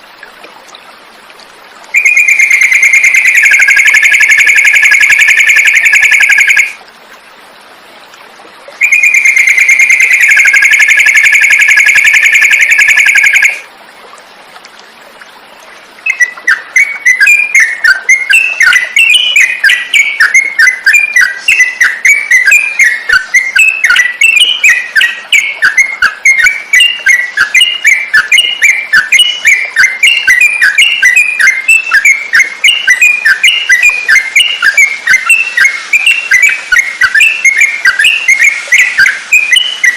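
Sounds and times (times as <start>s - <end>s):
bird trilled whistles: 2.0s - 6.8s, 8.8s - 13.6s, 16.0s - 39.9s
rapid bird chirping: 2.0s - 6.8s, 8.8s - 13.6s, 16.0s - 39.9s.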